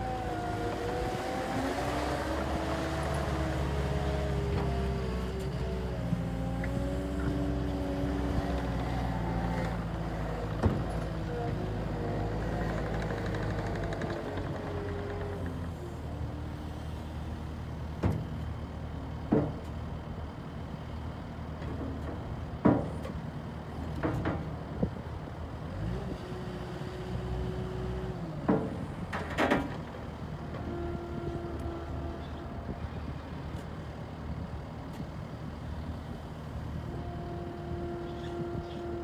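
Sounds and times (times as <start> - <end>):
diesel loader engine running: 0.0 - 39.0.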